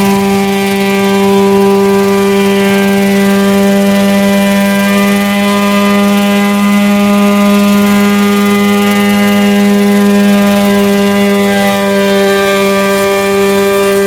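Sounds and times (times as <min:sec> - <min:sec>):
model helicopter engine droning: 0:00.0 - 0:14.0.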